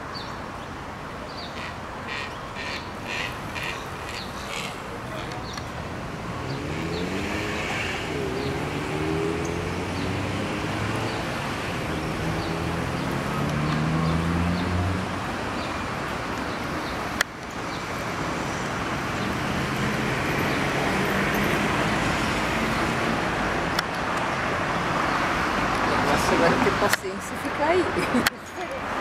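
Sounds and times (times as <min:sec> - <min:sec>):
road traffic: 0:00.0 - 0:29.0.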